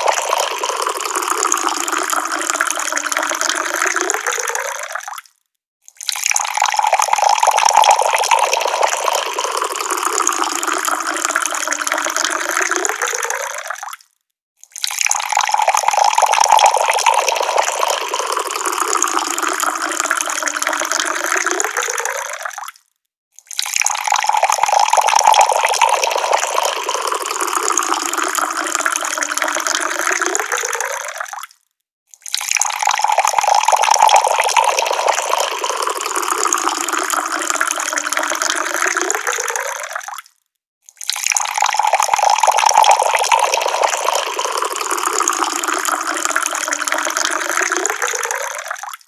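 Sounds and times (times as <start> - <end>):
water running from a tap: 0.0 - 4.6, 6.0 - 13.7, 14.8 - 22.5, 23.6 - 31.2, 32.3 - 39.6, 41.0 - 48.9.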